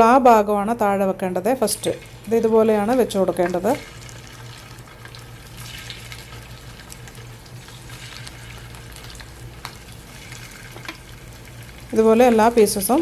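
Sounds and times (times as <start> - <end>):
bread sizzling in a frying pan: 1.6 - 13.0.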